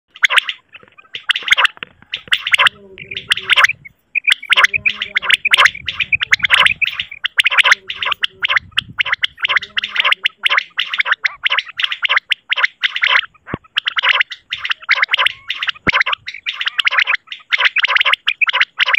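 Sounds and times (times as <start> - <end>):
recorded quail calls: 0.1 - 18.9.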